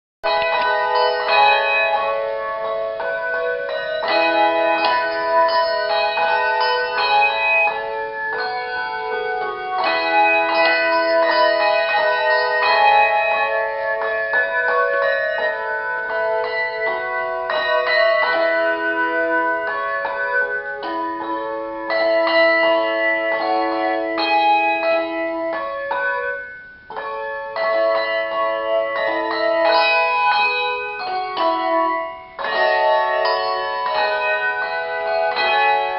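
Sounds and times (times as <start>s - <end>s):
handbells playing a tune: 0.2s - 35.9s.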